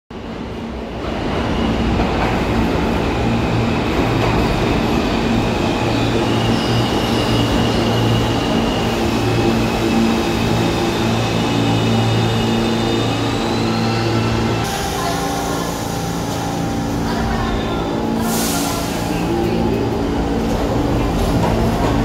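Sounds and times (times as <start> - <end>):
subway train wheels rumbling: 0.1 - 22.0.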